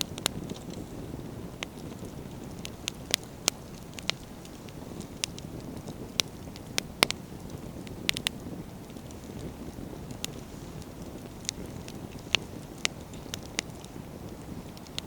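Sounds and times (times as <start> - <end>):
campfire pops and snaps: 0.0 - 15.0
low rumble of flame: 0.0 - 15.0.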